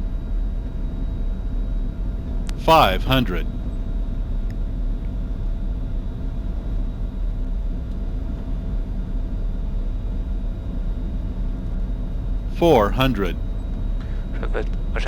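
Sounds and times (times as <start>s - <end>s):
airflow and engine rumble: 2.0s - 15.0s.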